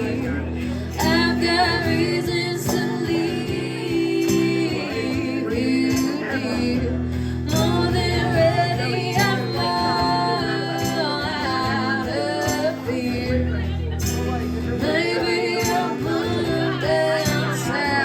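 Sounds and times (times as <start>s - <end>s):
bass: 0.0s - 18.0s
guitar: 0.0s - 18.0s
woman singing: 0.0s - 18.0s.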